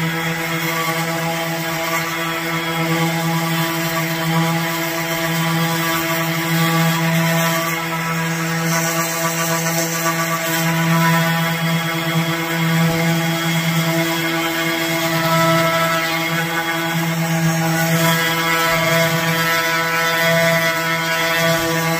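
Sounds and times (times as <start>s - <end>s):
orbital sander motor hum: 0.0s - 21.9s
sanding pad hissing on wood: 2.9s - 21.9s.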